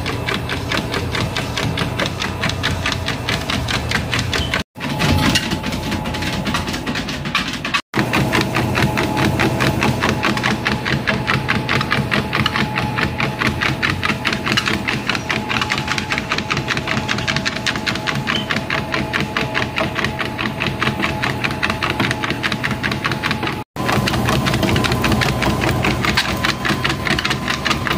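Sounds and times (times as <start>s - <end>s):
dog paws striking treadmill belt: 0.0s - 27.9s
treadmill motor running: 0.0s - 27.9s.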